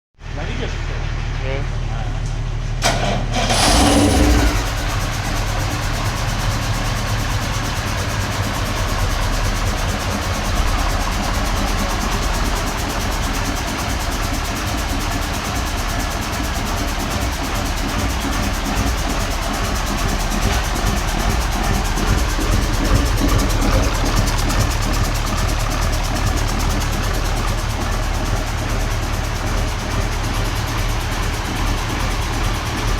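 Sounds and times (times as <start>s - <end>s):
truck diesel engine idling: 0.2s - 32.9s.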